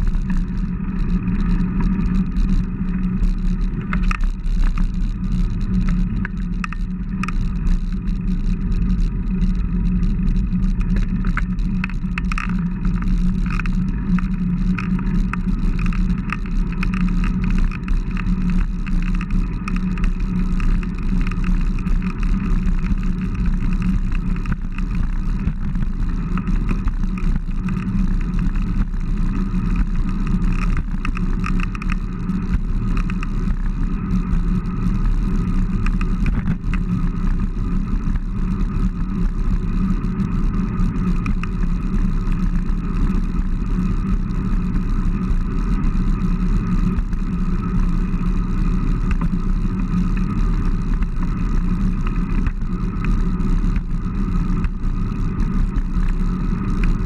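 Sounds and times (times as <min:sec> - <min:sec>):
road rumble: 0:00.0 - 0:57.0.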